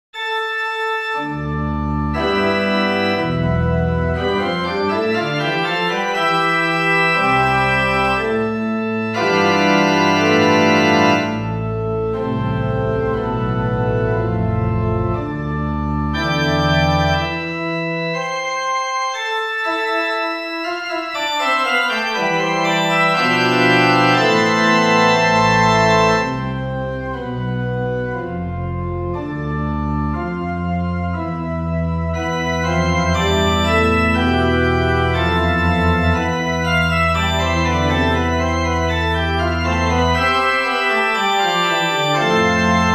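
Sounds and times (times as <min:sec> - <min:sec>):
organ playing chords: 0:00.2 - 0:42.9
low organ bass line: 0:01.2 - 0:19.1, 0:20.9 - 0:42.9.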